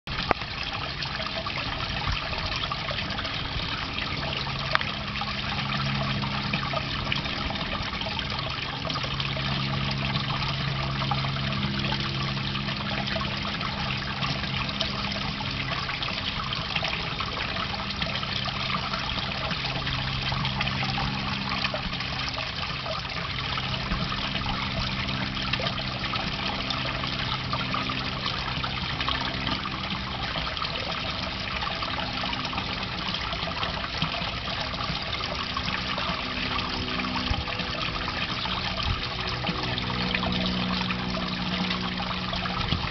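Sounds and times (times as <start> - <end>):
low hum: 0.1 - 42.9
water trickling into a pond: 0.1 - 42.9.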